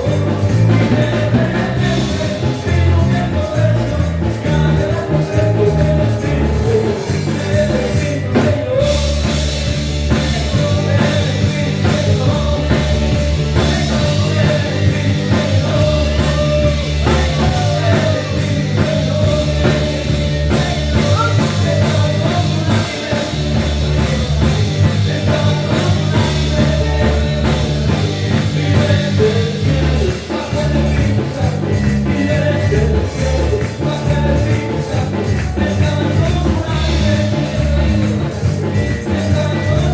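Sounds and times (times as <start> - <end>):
band playing worship song: 0.0 - 39.9
sung melody: 0.0 - 39.9.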